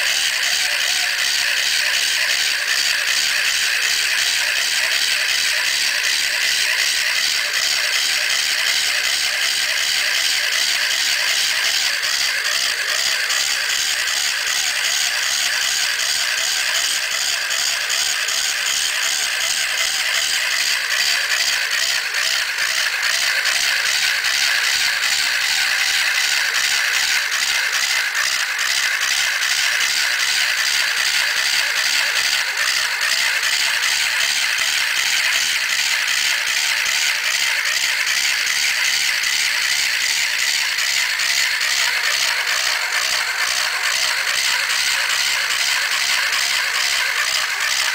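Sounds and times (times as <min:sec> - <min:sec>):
small electric motor whirring: 0:00.0 - 0:47.9
track blocks rattling: 0:00.0 - 0:47.9.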